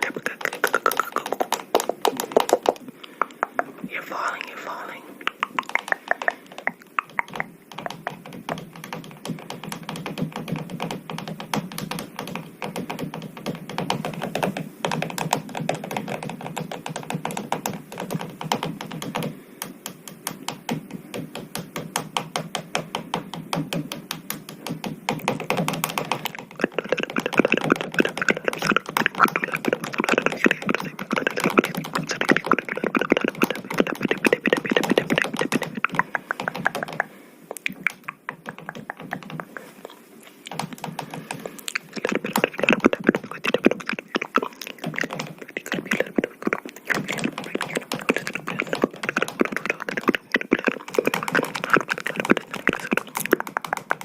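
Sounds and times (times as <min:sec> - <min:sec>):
rapid light tapping and clicking: 0:00.0 - 0:03.8, 0:04.4 - 0:54.0.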